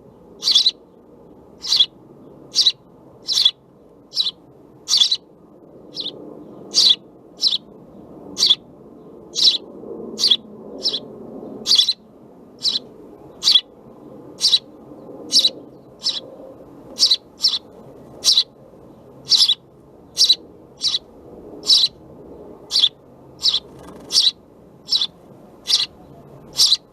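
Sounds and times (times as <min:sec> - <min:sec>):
sparrow chirping: 0:00.1 - 0:00.9, 0:01.6 - 0:05.3, 0:05.9 - 0:08.7, 0:09.3 - 0:12.0, 0:12.6 - 0:22.0, 0:22.6 - 0:26.9.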